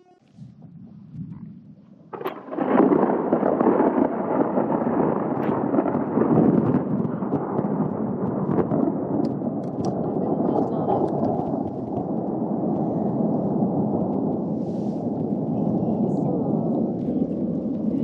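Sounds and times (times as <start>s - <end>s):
rolling thunder rumble: 0.0s - 18.0s
thunder crack: 0.6s - 18.0s.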